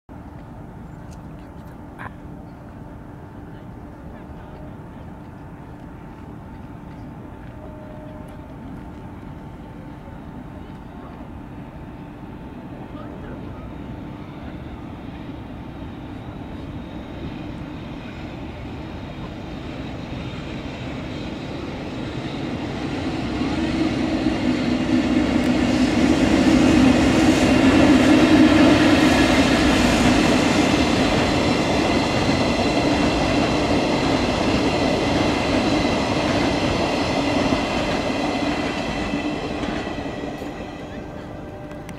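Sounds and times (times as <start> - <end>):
electric locomotive passing: 0.1 - 41.9.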